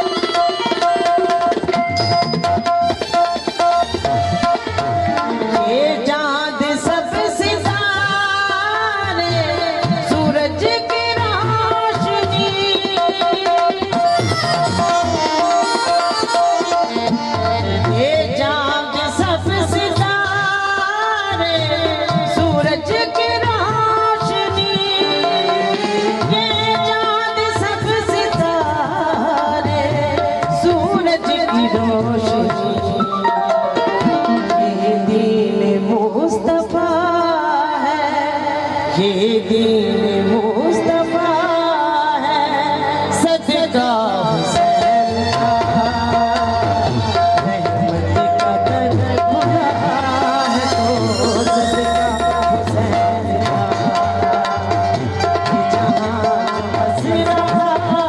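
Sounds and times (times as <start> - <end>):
harmonium steady notes: 0.0 - 58.0
tabla rhythm: 0.0 - 58.0
woman singing devotional song: 4.2 - 33.2, 33.8 - 58.0.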